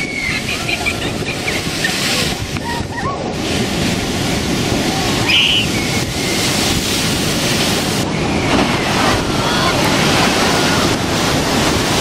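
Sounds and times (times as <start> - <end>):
storm waves crashing on seawall: 0.0 - 12.0.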